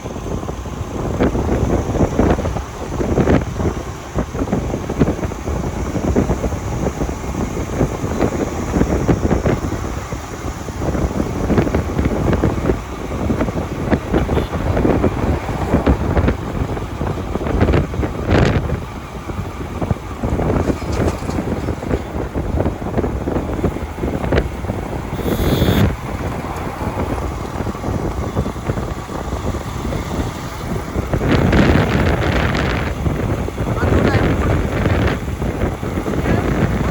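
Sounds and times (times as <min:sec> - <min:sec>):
motorcycle running: 0:00.0 - 0:36.9
road noise: 0:00.0 - 0:36.9
wind buffeting microphone: 0:00.0 - 0:36.9.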